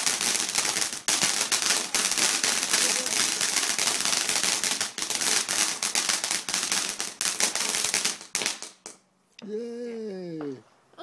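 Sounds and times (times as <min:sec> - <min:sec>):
firework crackling: 0:00.0 - 0:09.0.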